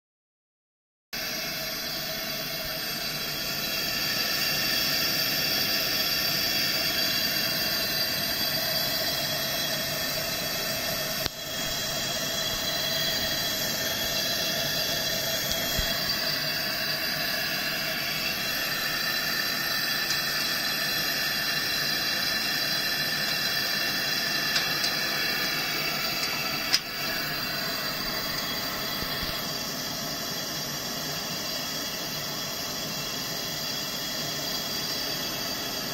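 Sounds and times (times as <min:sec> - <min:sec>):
camp stove burner hissing: 0:01.2 - 0:35.9
faint whistling tones: 0:01.2 - 0:35.9.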